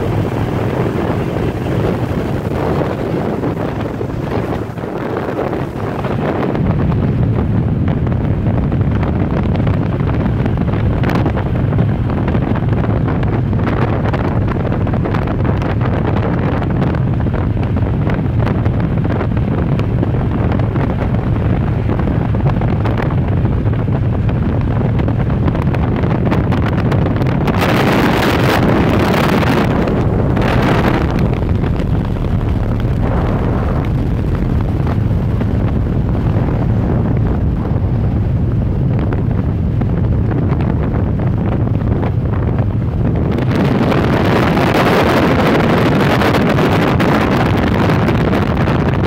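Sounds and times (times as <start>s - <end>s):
motorcycle engine running: 0.0s - 49.0s
road noise: 0.0s - 49.0s
wind rushing over microphone: 0.0s - 49.0s.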